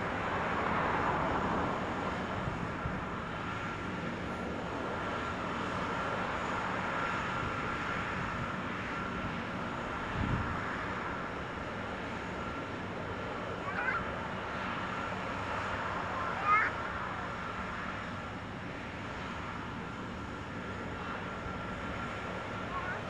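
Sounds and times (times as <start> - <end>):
aircraft engine rumble: 0.0 - 23.0.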